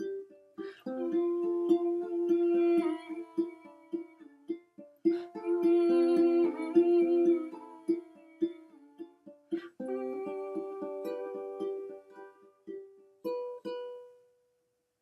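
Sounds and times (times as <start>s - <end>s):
ukulele strumming chords: 0.0s - 14.4s.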